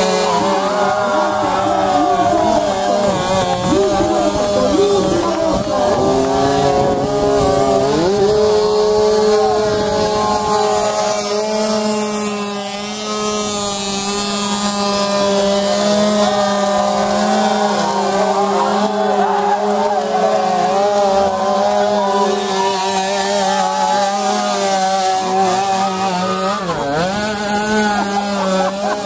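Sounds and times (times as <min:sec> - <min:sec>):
scooter engine revving: 0:00.0 - 0:29.0.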